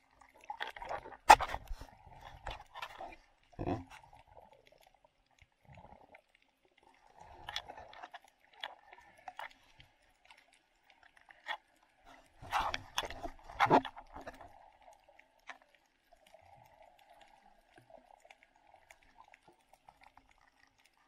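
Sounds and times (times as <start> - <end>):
underwater clicks and crackles: 0.0 - 21.0
water swishing: 0.0 - 21.0.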